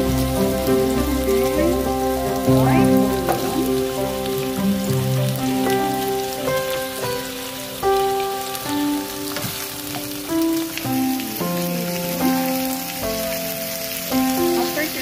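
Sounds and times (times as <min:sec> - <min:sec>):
slow background music: 0:00.0 - 0:15.0
vegetables sizzling in a wok: 0:00.0 - 0:15.0.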